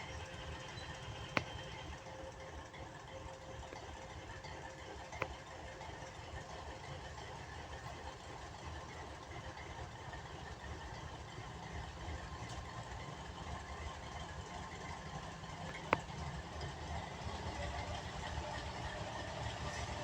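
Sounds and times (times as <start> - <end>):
diesel locomotive engines rumbling: 0.0 - 20.0.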